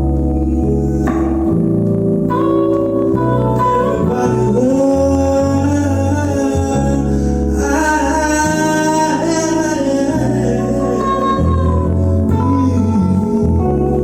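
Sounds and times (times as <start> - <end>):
bass line: 0.0 - 14.0
guitar: 0.0 - 14.0
person singing long notes: 0.0 - 14.0.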